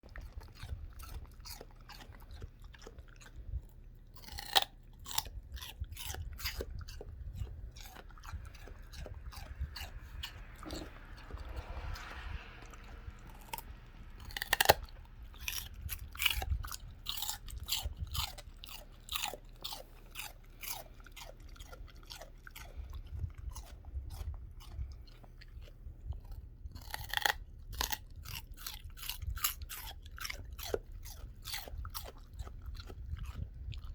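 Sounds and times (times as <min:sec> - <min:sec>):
puppy chewing celery: 0:00.0 - 0:33.9.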